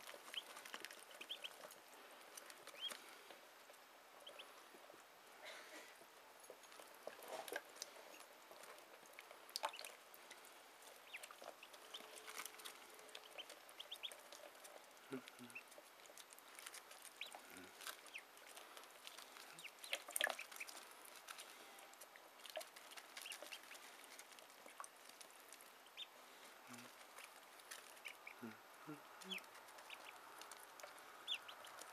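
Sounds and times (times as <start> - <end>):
ducklings peeping: 0.0 - 5.0, 5.9 - 31.9.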